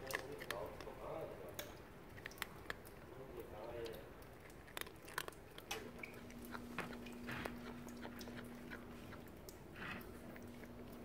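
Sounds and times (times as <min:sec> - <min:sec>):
cat crunching dry kibble: 0:00.0 - 0:11.0.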